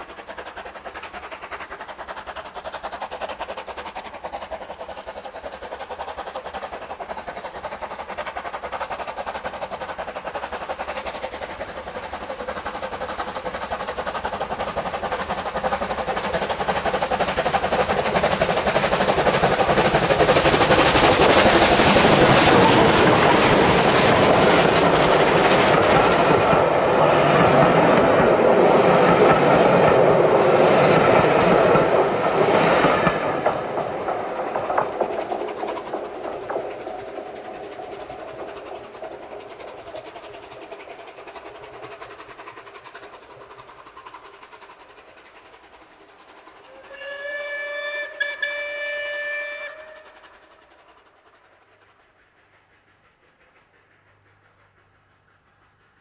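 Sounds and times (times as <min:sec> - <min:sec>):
steam train clattering on rails: 0:00.0 - 0:56.0.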